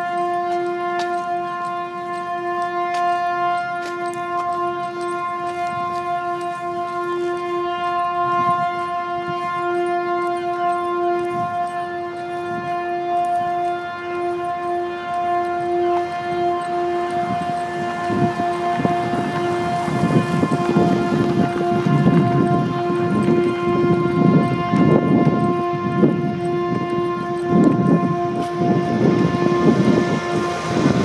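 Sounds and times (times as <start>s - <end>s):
horn-like drone: 0.0s - 31.0s.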